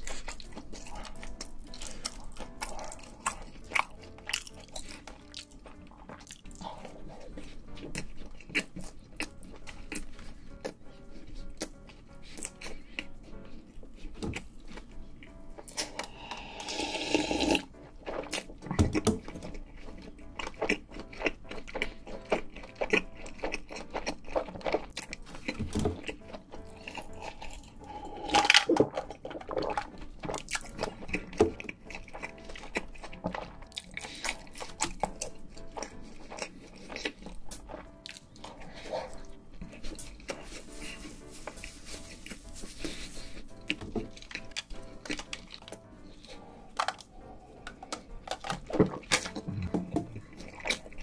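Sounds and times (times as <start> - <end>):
chewing and crunching food: 0.0 - 51.0.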